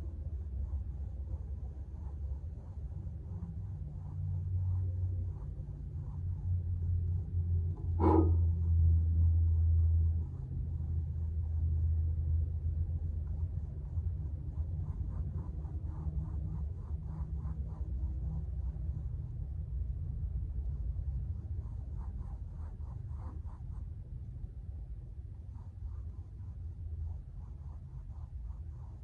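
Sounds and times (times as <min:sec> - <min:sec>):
paintbrush scratching on canvas: 0:00.0 - 0:29.0
steady low rumble: 0:00.0 - 0:29.0.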